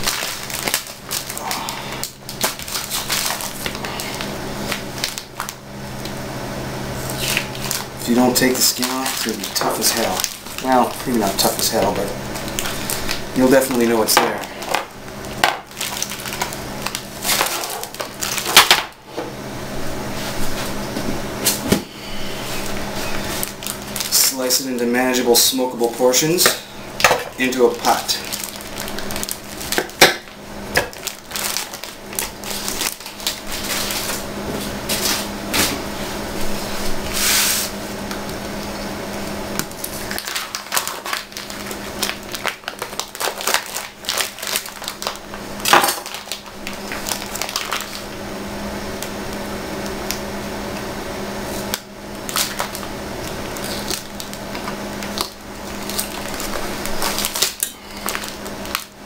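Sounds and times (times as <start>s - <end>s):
plastic wrap rustling: 0.0s - 6.2s, 6.8s - 19.0s, 19.8s - 59.0s
steady low hum: 0.0s - 59.0s.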